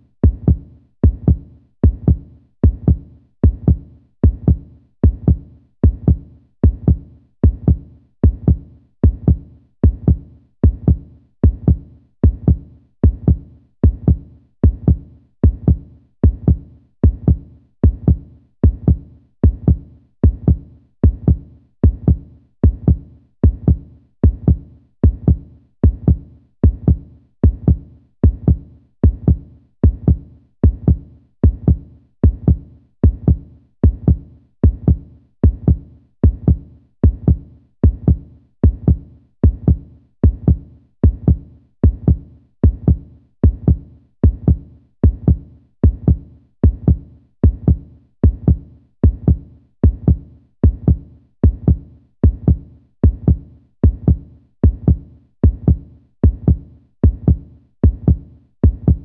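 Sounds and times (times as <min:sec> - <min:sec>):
heartbeat thumps: 0:00.2 - 0:59.0.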